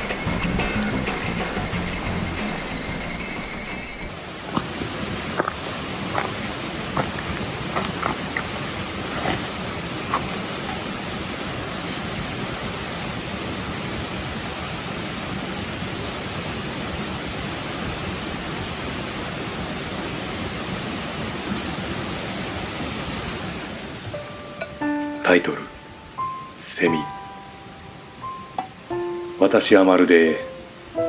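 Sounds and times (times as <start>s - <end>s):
waterfall roaring: 4.0s - 31.0s.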